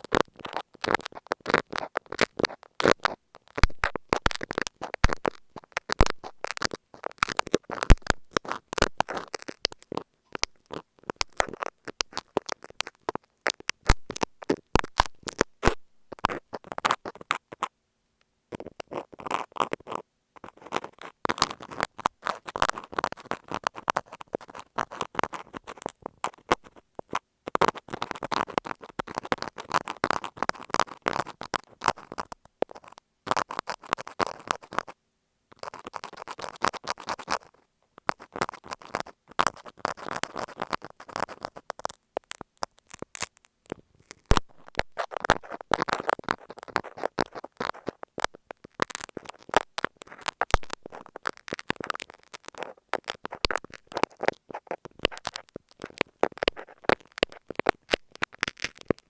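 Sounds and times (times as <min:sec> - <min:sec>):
pins scratching on microphone: 0:00.0 - 0:17.7, 0:18.5 - 0:59.0.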